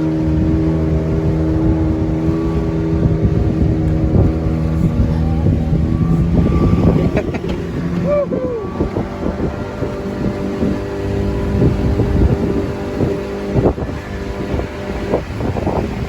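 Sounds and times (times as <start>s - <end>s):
motorboat engine running: 0.0s - 16.0s
rushing water: 0.0s - 16.0s
wind noise: 0.0s - 16.0s.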